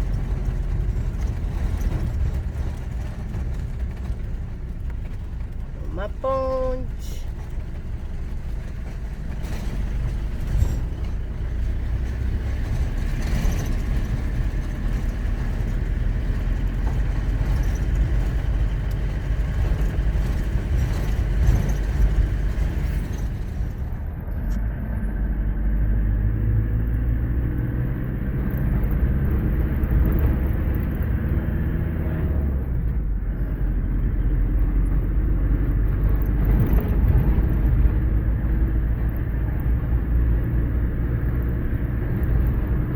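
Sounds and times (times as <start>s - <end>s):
vehicle on dirt road: 0.0s - 42.9s.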